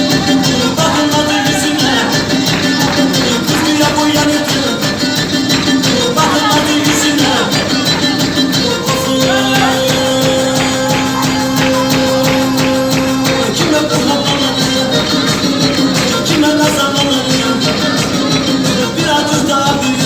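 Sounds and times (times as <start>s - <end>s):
fast percussion beat: 0.0s - 20.0s.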